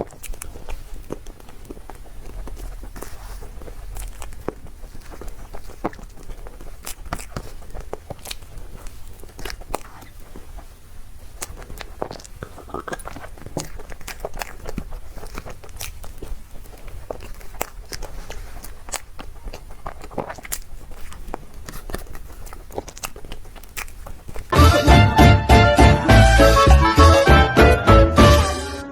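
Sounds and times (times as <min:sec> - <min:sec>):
wet mouth clicks: 0:00.0 - 0:24.5
bites and chewing: 0:00.0 - 0:28.6.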